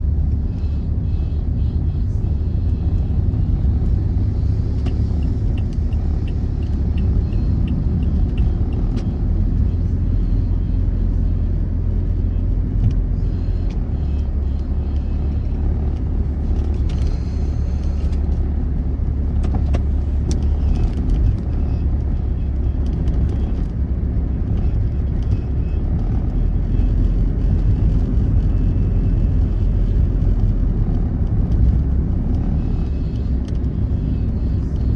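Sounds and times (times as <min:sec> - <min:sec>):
low rumble of traffic: 0:00.0 - 0:34.9.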